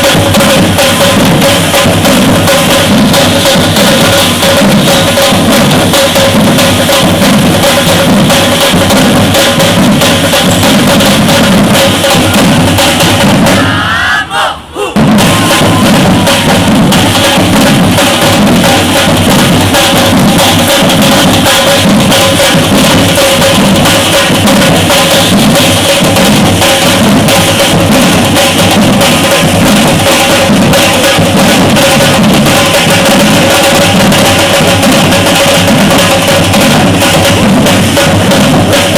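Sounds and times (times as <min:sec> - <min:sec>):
drum ensemble playing: 0:00.0 - 0:38.9.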